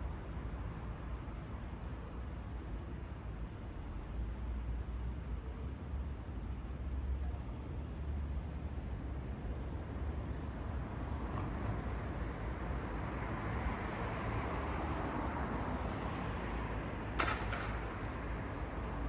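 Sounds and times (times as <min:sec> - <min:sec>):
low traffic rumble: 0:02.1 - 0:19.0.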